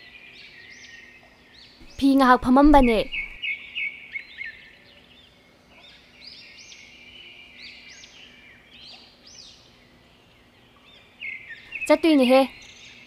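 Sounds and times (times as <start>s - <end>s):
birds chirping: 0.0s - 13.0s
high-pitched bird chorus: 0.0s - 13.0s.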